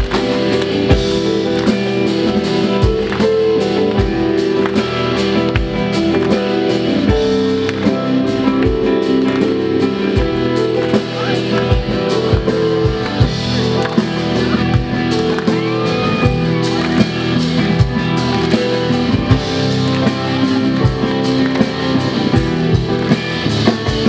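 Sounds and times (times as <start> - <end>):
drums keeping steady beat: 0.0 - 24.0
live band playing: 0.0 - 24.0.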